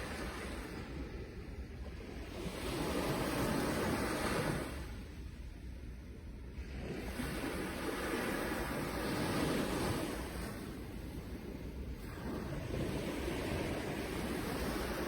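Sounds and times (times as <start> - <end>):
sea waves washing in: 0.0 - 15.0.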